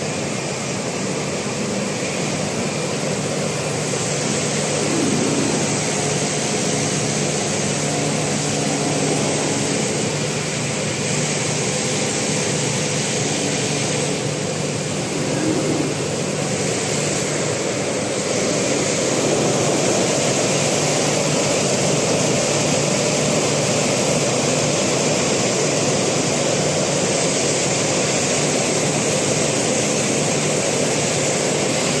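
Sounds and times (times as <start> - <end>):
washing machine hum and hiss: 0.0 - 32.0.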